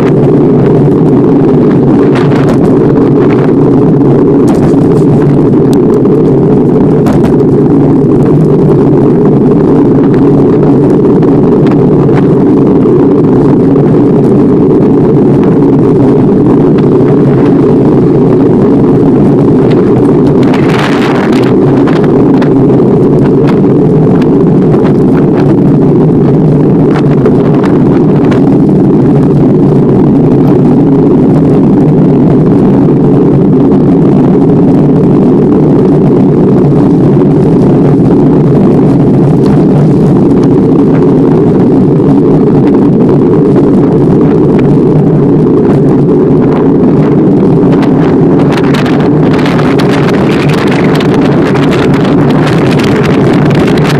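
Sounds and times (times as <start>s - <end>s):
bicycle road noise: 0.0s - 53.9s
wind on microphone: 0.0s - 53.9s.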